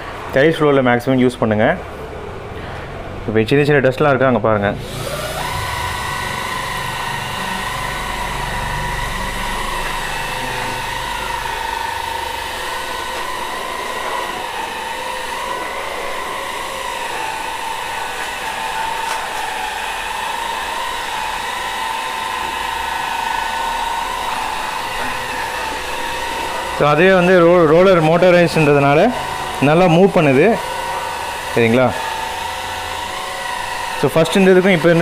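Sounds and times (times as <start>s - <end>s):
vacuum cleaner motor whine: 4.8s - 35.0s.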